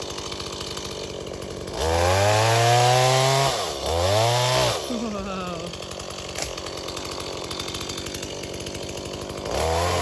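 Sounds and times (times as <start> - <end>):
chainsaw idling and revving: 0.0 - 10.0.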